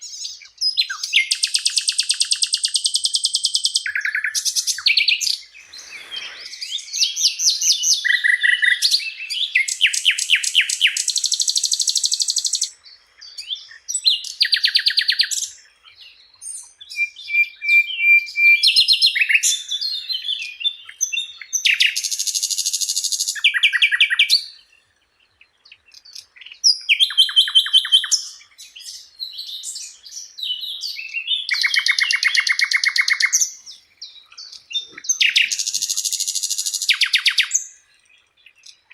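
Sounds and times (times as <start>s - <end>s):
bird singing trills and chatters: 0.0s - 38.9s.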